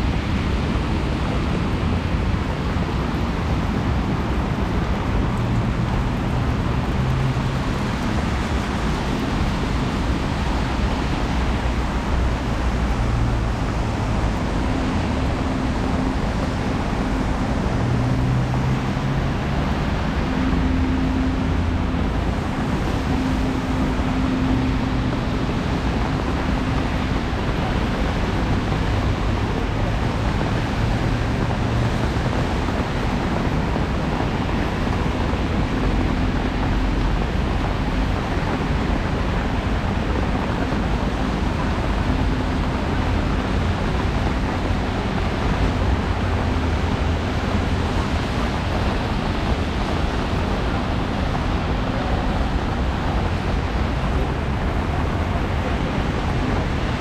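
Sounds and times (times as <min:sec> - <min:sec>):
low hum of engines: 0:00.0 - 0:57.0
tyres hissing on wet road: 0:00.0 - 0:57.0.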